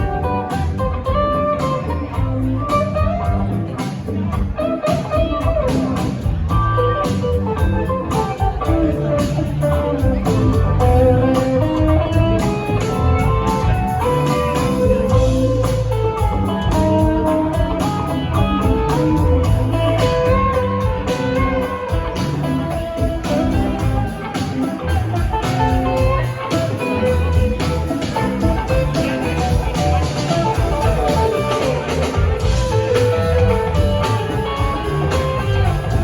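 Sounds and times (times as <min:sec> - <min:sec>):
bass: 0:00.0 - 0:36.0
drums: 0:00.0 - 0:36.0
electric guitar: 0:00.0 - 0:36.0.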